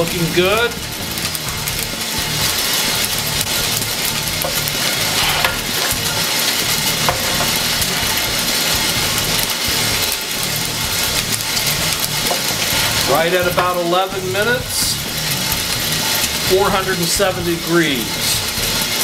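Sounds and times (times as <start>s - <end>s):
coffee beans popping: 0.0s - 19.0s
coffee roaster running: 0.0s - 19.0s.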